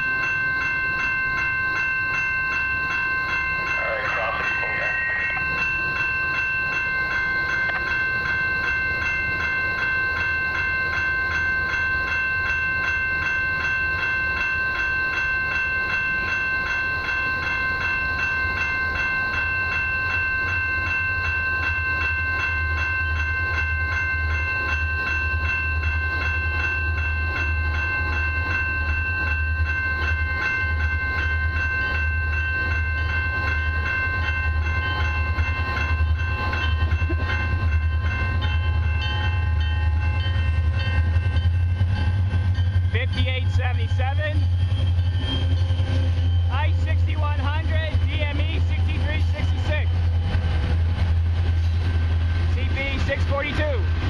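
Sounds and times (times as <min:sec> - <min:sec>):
diesel locomotives rumbling: 0:00.0 - 0:54.0
level-crossing warning bell ringing: 0:00.0 - 0:54.0.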